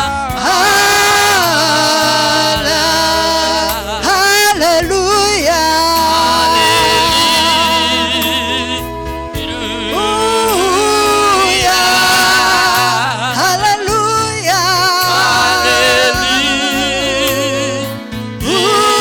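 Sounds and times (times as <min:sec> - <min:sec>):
instrumental backing with bass line: 0:00.0 - 0:19.0.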